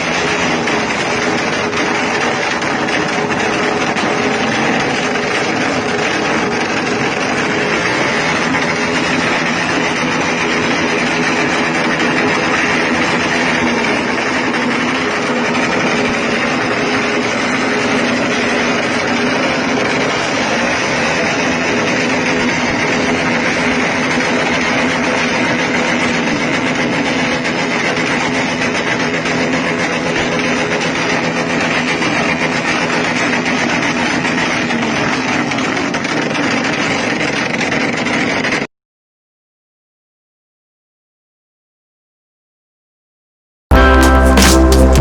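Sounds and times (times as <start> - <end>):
motorcycle engine running: 0.0 - 38.7, 43.7 - 45.0.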